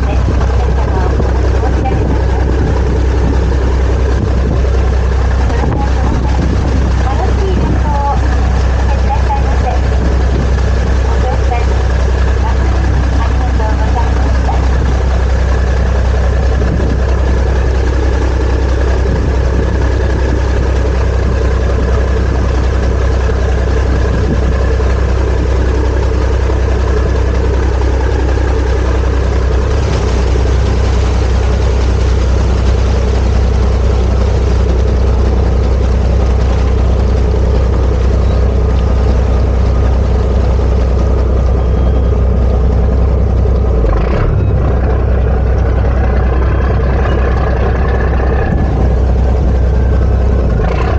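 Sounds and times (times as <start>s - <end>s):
boat engine droning: 0.0s - 50.9s.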